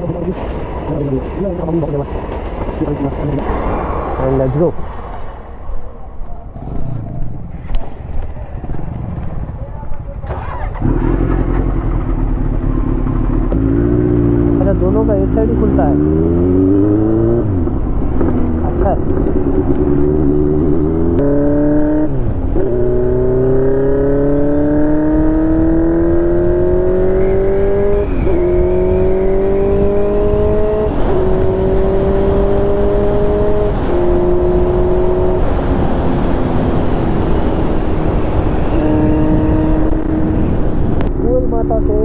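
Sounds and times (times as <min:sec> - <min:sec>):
rushing wind: 0:00.0 - 0:42.0
motorcycle engine accelerating: 0:06.5 - 0:42.0.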